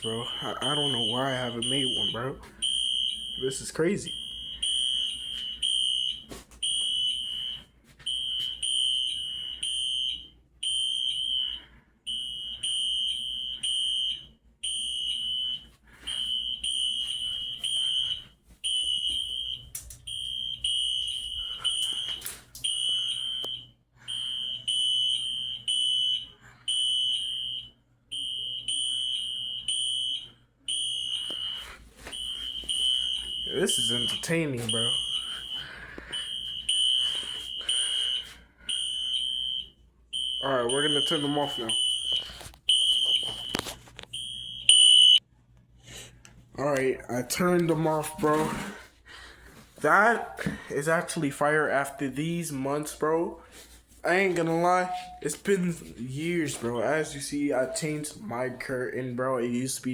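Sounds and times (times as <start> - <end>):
fire alarm sounders pulsing: 0.0 - 45.3, 49.8 - 58.6.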